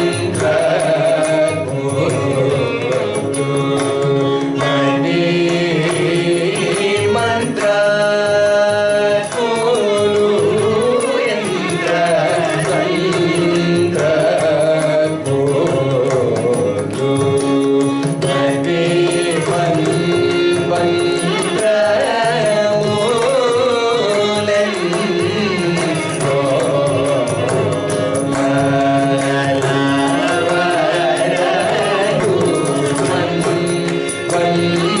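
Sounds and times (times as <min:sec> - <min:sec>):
person singing: 0:00.0 - 0:35.0.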